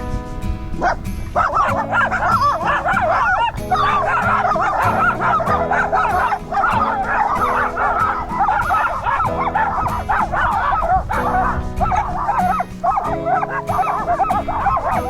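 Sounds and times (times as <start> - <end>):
background music with held chords: 0.0 - 15.0
dogs barking and yelping: 0.7 - 15.0.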